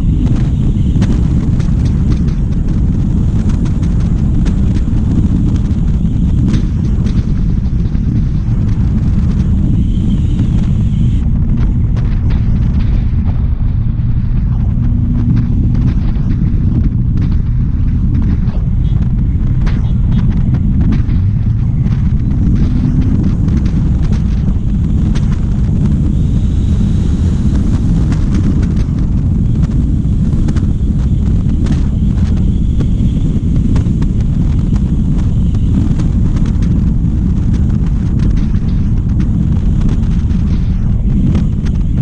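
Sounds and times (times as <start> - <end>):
road noise: 0.0 - 42.0
wind buffeting microphone: 0.0 - 42.0.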